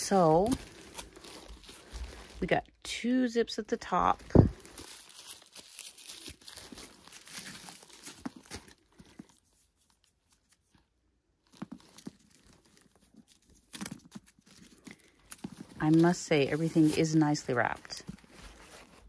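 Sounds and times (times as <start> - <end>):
plastic wrap crinkling: 0.0 - 2.7, 3.8 - 10.8, 11.4 - 19.0.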